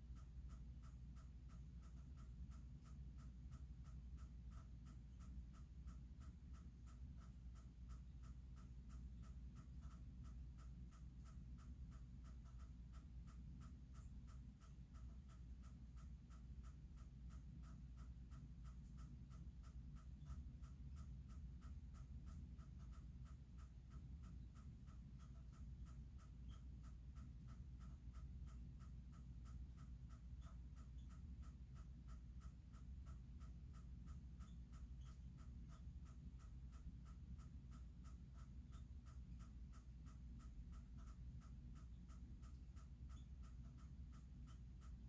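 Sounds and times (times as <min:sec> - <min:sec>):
low background hum: 0:00.0 - 0:45.0.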